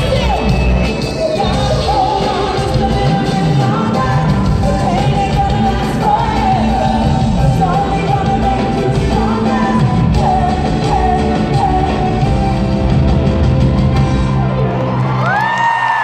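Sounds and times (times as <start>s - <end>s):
woman singing lead: 0.0s - 14.1s
live pop-rock band playing: 0.0s - 16.0s.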